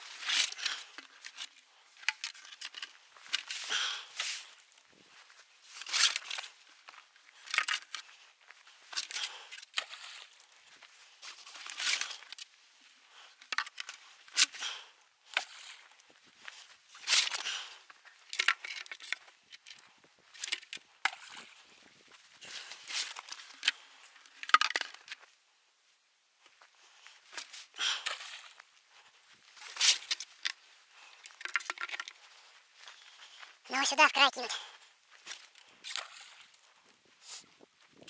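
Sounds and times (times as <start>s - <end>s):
bag and dry grass rustling: 0.0s - 25.4s, 26.4s - 38.0s.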